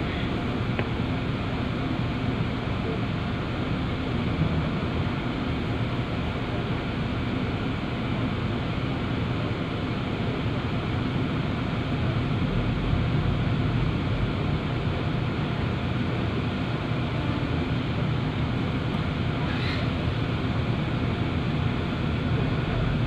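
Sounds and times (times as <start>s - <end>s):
ferry engine droning: 0.0s - 23.0s.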